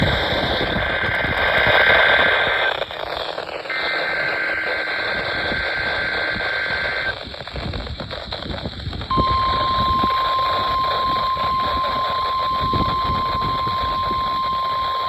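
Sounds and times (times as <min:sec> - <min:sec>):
radio static: 0:00.0 - 0:15.0
two-tone data screech: 0:00.0 - 0:15.0.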